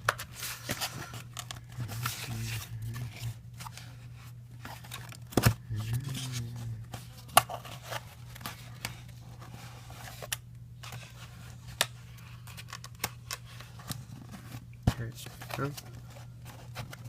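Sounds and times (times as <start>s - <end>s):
cardboard rustling: 0.0s - 17.0s
steady low hum: 0.0s - 17.0s.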